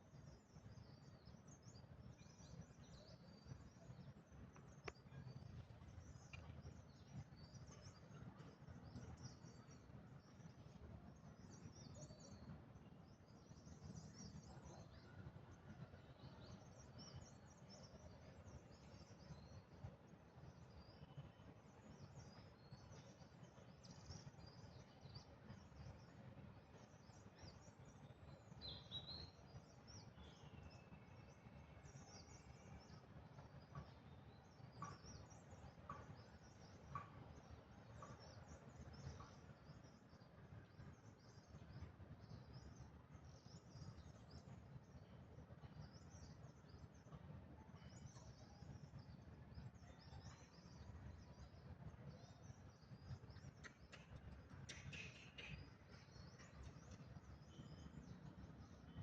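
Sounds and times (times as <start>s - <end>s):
small birds chirping: 0.2s - 59.0s.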